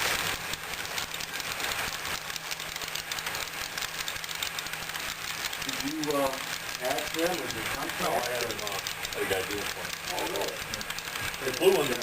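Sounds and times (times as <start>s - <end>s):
model train clicking on track: 0.0s - 12.0s.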